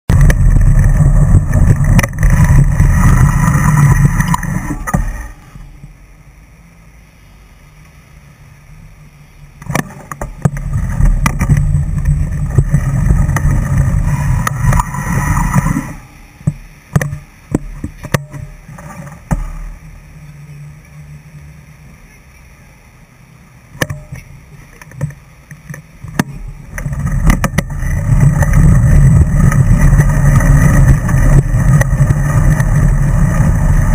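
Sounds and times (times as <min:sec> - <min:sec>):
traffic rumbling in tunnel: 0:00.0 - 0:16.9, 0:18.7 - 0:33.9.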